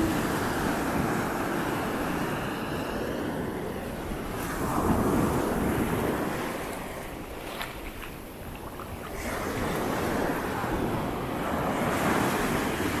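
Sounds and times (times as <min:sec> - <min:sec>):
small waves washing on sand: 0:00.0 - 0:13.0.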